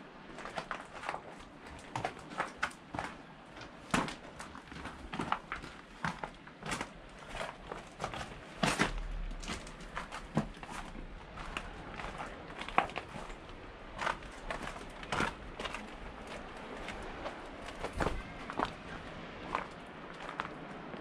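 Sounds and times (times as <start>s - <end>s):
footsteps walking: 0.4s - 20.6s.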